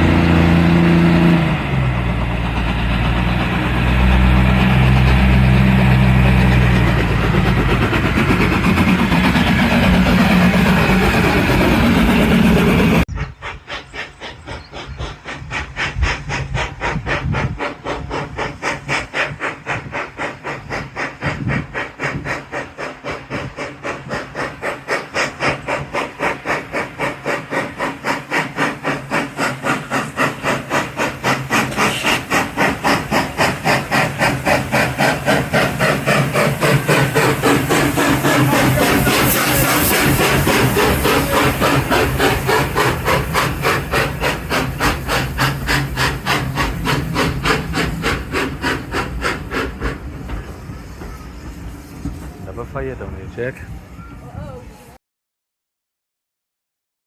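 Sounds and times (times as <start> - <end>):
steam locomotive chuffing: 0.0 - 54.9.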